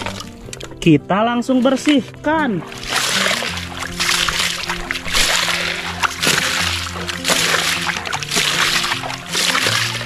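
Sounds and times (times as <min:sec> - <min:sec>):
water sloshing and splashing: 0:00.0 - 0:00.8, 0:01.4 - 0:10.0
background music with held notes: 0:00.0 - 0:10.0.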